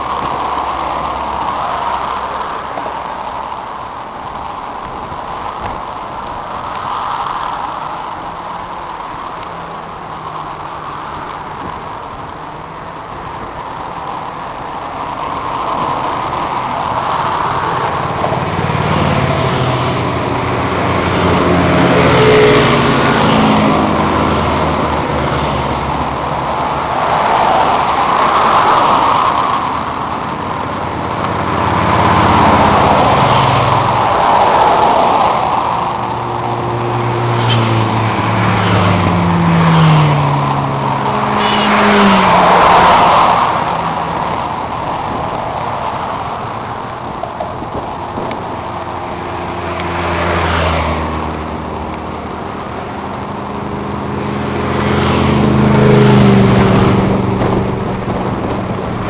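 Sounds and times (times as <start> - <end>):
motorcycle engines accelerating: 0.0 - 59.0
wind and road noise: 0.0 - 59.0.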